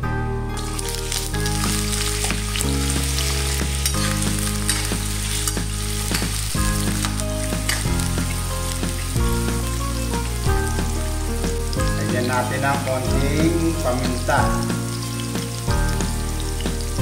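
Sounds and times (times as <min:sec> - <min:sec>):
carrots sizzling in hot oil: 0:00.6 - 0:17.0.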